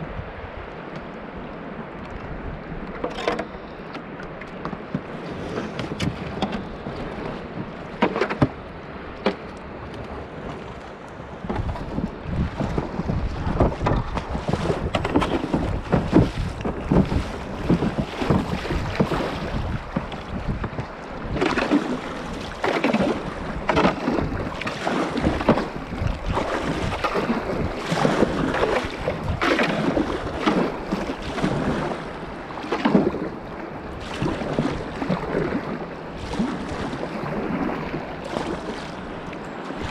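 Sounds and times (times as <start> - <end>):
water washing along hull: 0.0 - 39.9
wind buffeting microphone: 0.0 - 39.9
paddle strokes splashing: 0.5 - 39.9.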